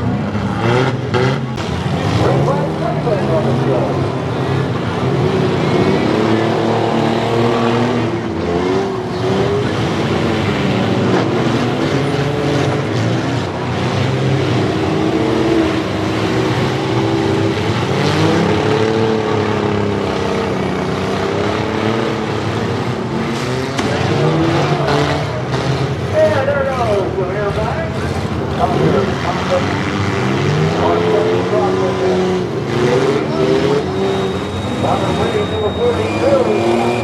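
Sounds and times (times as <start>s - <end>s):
engines revving hard: 0.0s - 37.0s.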